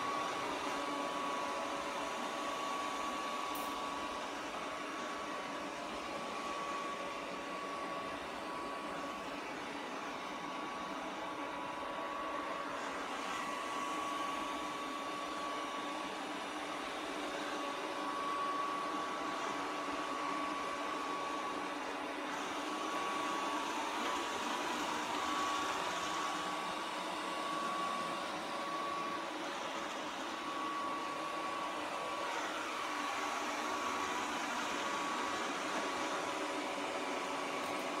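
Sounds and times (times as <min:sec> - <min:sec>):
robot vacuum cleaner whirring: 0:00.0 - 0:38.0.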